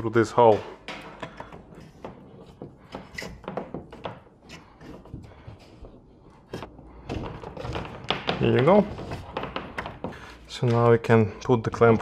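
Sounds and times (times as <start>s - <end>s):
wires knocking and scraping drywall: 0.0s - 12.0s.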